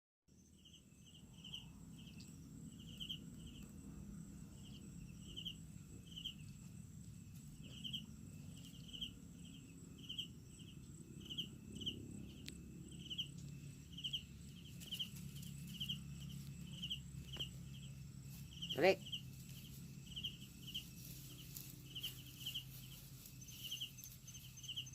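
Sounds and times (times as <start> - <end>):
cricket chirping: 0.3 - 24.9
low background rumble: 0.6 - 24.9.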